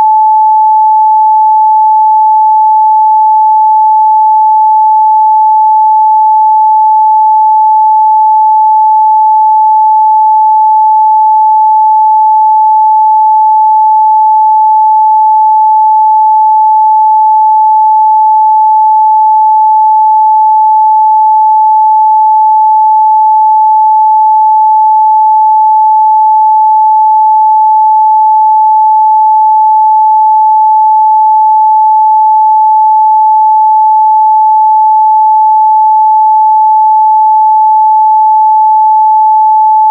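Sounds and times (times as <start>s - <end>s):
steady sine wave test tone: 0.0s - 39.9s.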